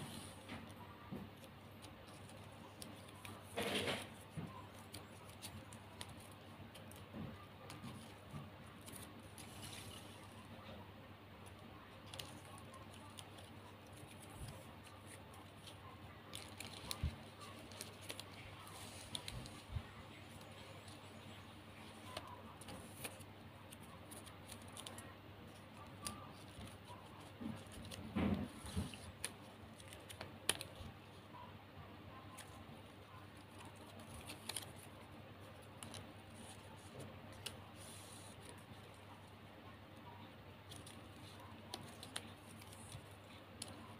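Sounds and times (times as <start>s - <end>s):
ribbon crinkling and rustling: 0.0s - 43.9s.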